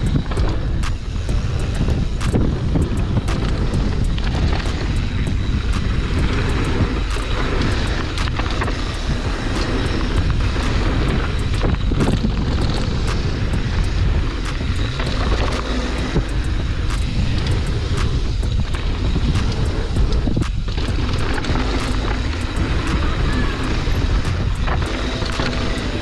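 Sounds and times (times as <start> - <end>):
bike rattling clicks and knocks: 0.0 - 26.0
tyres rumbling on dirt: 0.0 - 26.0
wind buffeting microphone: 0.0 - 26.0.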